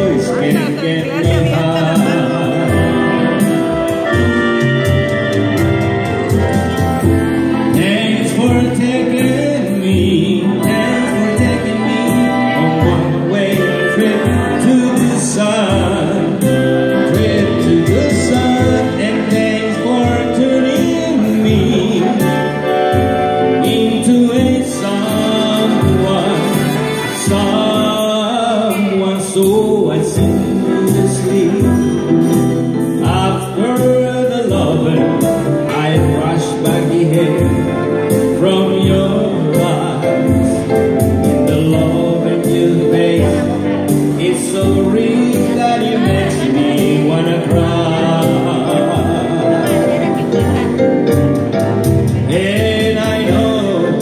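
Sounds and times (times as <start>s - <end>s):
electronic keyboard: 0.0s - 54.0s
man singing a slow ballad: 0.0s - 54.0s.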